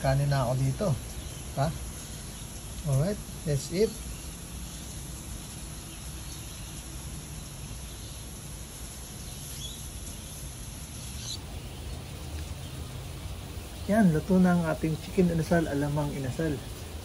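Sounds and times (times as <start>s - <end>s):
insect trill: 0.0s - 17.0s
low hum and hiss: 0.0s - 17.0s.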